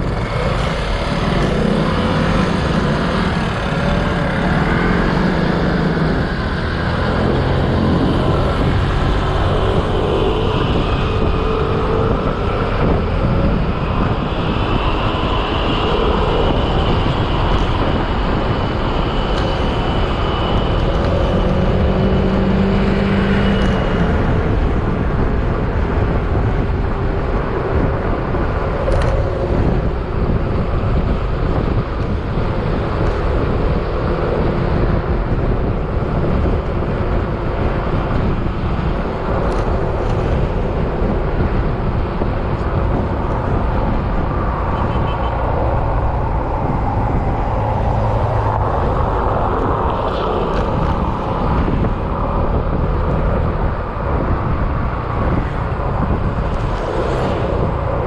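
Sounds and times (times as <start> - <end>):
high-pitched whine: 0.0 - 58.0
wind and road noise: 0.0 - 58.0.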